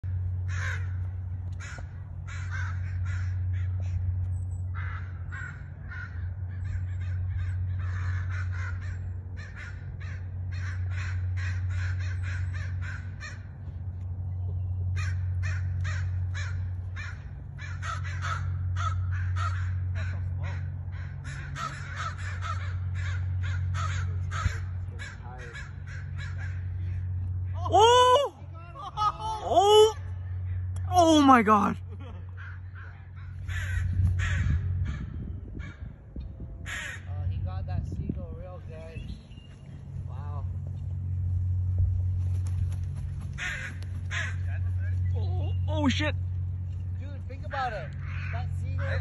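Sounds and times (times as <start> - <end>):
low drone: 0.0 - 49.0
birds calling harshly: 0.1 - 13.6, 14.4 - 27.9, 29.2 - 31.2, 32.0 - 37.4, 38.7 - 41.1, 42.2 - 49.0.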